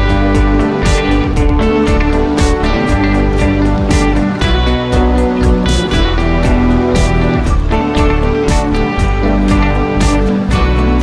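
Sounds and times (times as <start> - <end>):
guitar music: 0.0 - 11.0.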